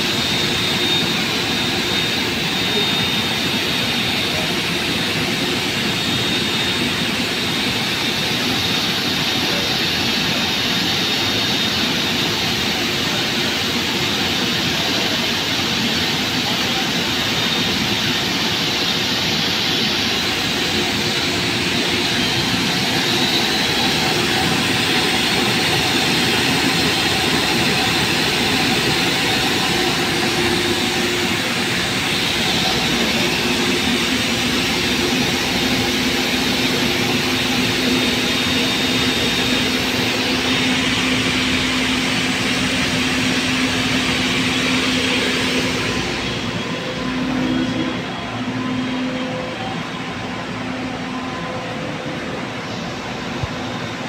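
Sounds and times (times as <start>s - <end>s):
machine whir: 0.0s - 54.0s.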